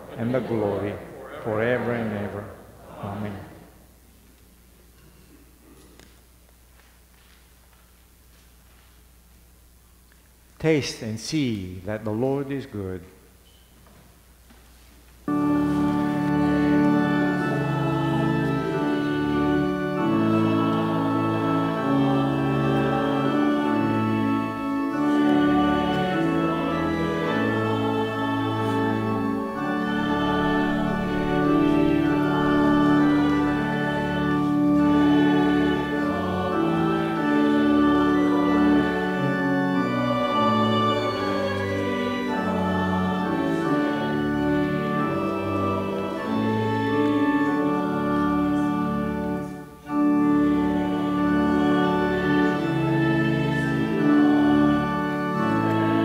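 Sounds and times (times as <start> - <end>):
organ playing slow chords: 0.0 - 6.1, 9.5 - 13.3, 15.2 - 56.0.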